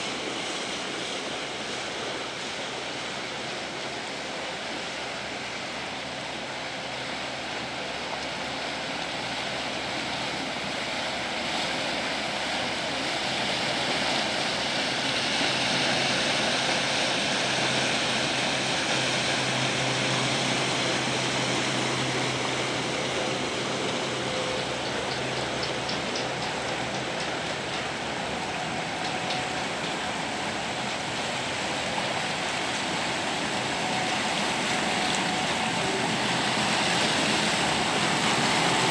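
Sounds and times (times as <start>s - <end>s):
low engine hum: 0.0s - 38.9s
water rushing along a hull: 0.0s - 38.9s.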